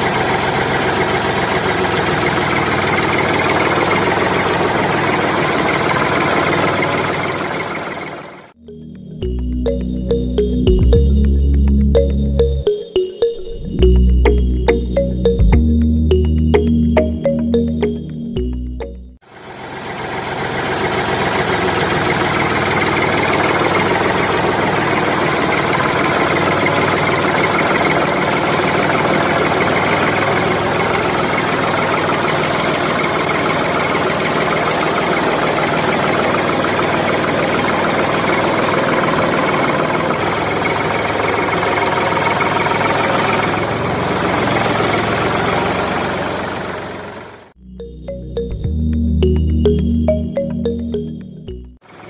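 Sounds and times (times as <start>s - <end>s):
tractor engine running: 0.0s - 12.8s, 13.6s - 52.0s.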